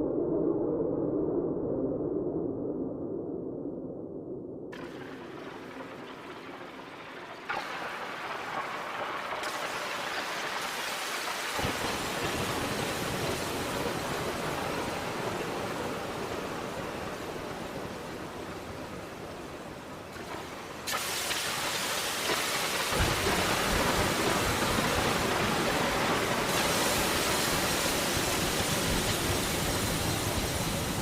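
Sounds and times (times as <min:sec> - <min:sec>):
electronic rain-like hiss: 0:04.7 - 0:31.0.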